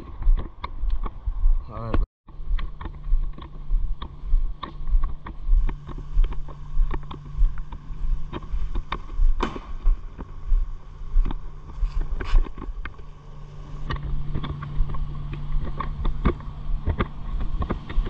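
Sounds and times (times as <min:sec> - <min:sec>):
gear clicking and rattling: 0:02.3 - 0:18.0
kayak rolling on paved path: 0:02.3 - 0:18.0
footsteps: 0:02.4 - 0:18.0.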